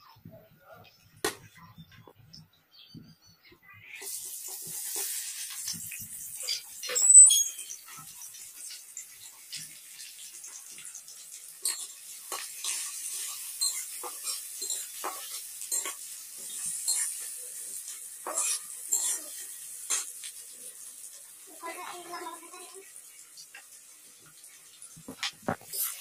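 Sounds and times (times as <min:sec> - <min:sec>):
onions sizzling in hot oil: 0:03.8 - 0:26.0.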